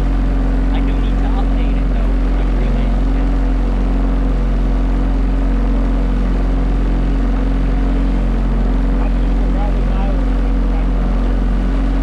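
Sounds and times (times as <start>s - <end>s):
motorboat engine idling: 0.0s - 12.0s.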